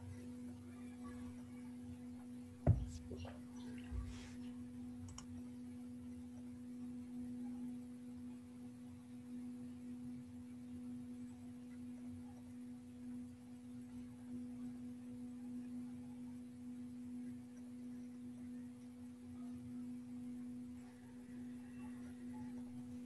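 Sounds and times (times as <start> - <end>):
faint steady pure tone: 0.0 - 23.0.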